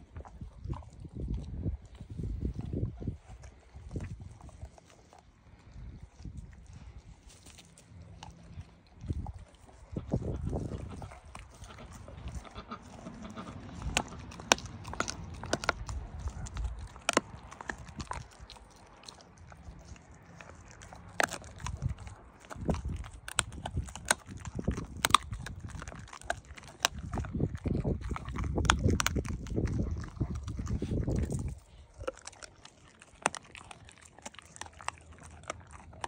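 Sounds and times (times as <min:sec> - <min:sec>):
dog chewing meat: 0:00.0 - 0:36.0
teeth crunching and clicking: 0:00.0 - 0:36.0.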